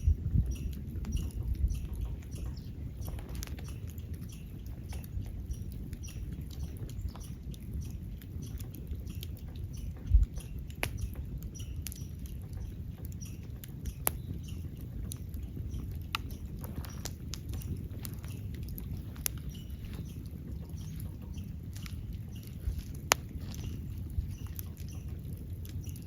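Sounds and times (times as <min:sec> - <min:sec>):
low fire rumble: 0:00.0 - 0:26.0
wood fire crackling: 0:00.0 - 0:26.0.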